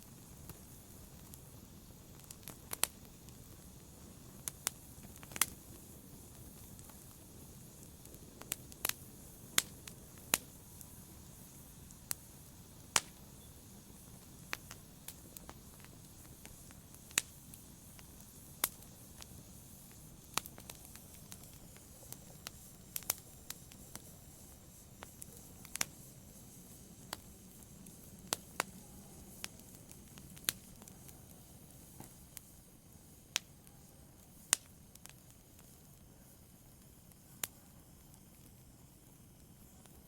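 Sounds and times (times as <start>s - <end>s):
fireplace fire crackling: 0.0s - 40.0s
low hiss of fire: 0.0s - 40.0s
sharp pops of fire: 0.0s - 40.0s.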